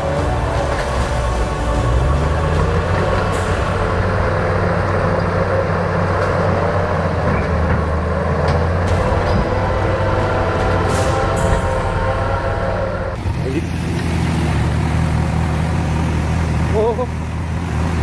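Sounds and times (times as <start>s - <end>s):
bulldozer diesel engine: 0.0s - 18.0s.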